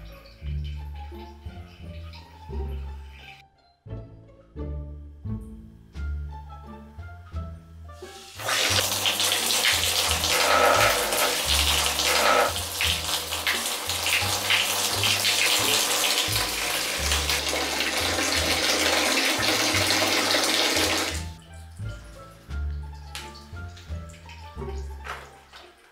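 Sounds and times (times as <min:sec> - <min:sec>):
faucet water gushing: 0:00.0 - 0:03.4, 0:08.0 - 0:25.9
background music: 0:00.0 - 0:25.9.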